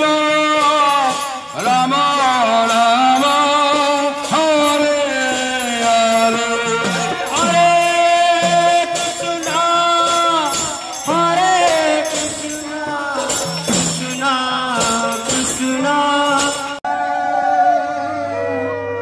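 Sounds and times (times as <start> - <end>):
jingling hand cymbals: 0.0 - 16.8.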